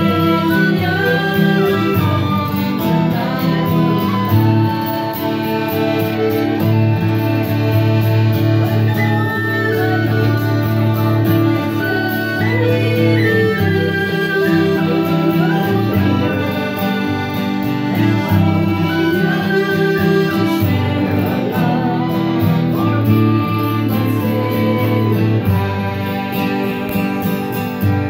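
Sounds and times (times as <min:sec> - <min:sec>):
acoustic guitar strumming chords: 0:00.0 - 0:28.0
button accordion melody: 0:00.0 - 0:28.0.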